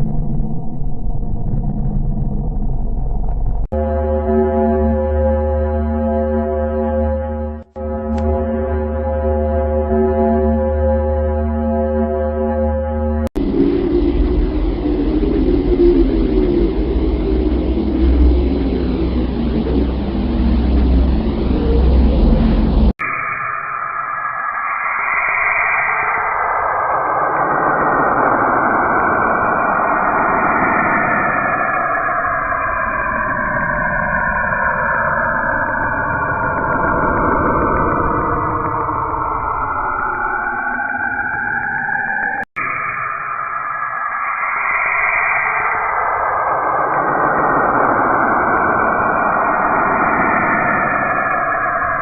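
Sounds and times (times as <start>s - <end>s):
deep rushing noise: 0.0s - 23.2s, 23.9s - 52.0s.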